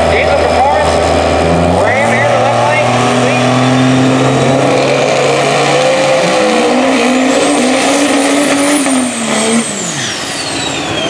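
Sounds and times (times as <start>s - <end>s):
high whine: 0.0s - 11.0s
race car engine at full throttle: 0.0s - 11.0s.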